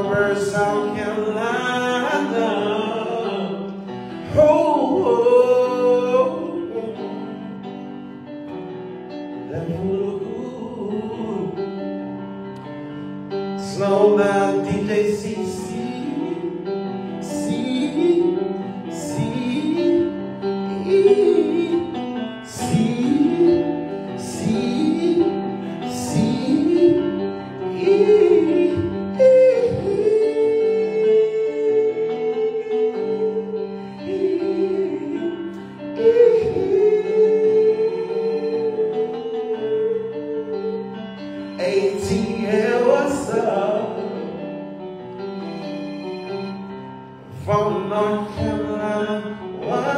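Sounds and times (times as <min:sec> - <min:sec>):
person singing with vibrato: 0:00.0 - 0:08.2, 0:09.3 - 0:12.1, 0:13.5 - 0:49.9.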